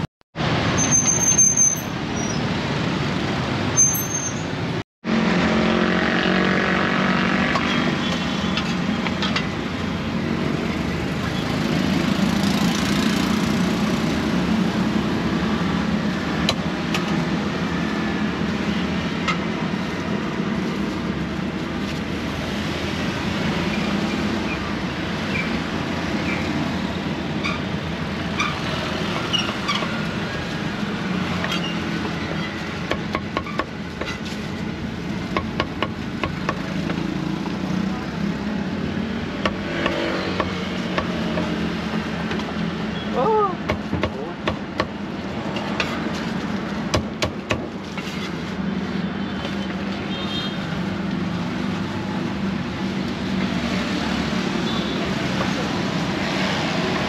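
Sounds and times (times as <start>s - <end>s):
traffic and engines hum: 0.0s - 57.0s.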